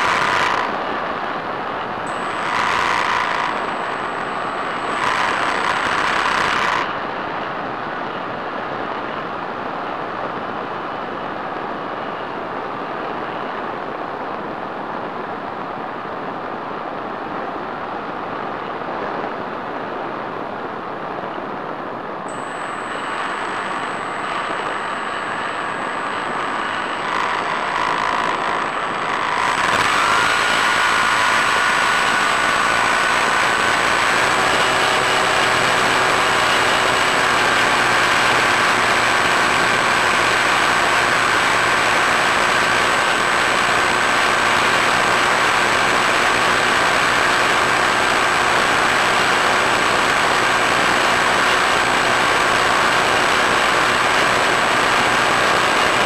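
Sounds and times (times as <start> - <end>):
model plane motor and propeller: 0.0 - 14.2, 22.2 - 56.0
faint motor whine: 0.0 - 56.0.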